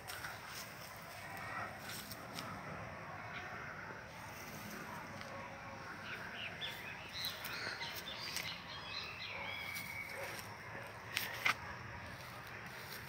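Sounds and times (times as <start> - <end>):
birds chirping: 0.0 - 13.0
outdoor background hiss: 0.0 - 13.0.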